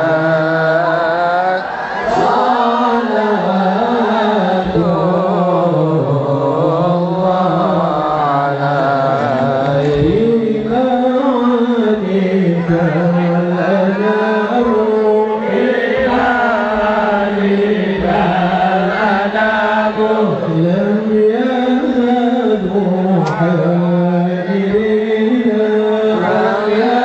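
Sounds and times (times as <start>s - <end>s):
person chanting long notes: 0.0s - 27.0s.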